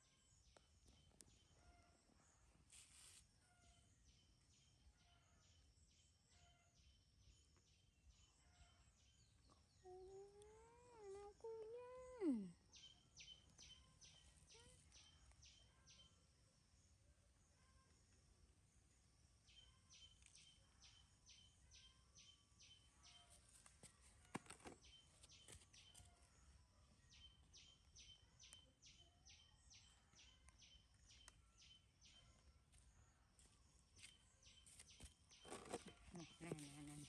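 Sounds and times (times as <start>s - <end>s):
faint bird chirping: 0.0s - 37.0s.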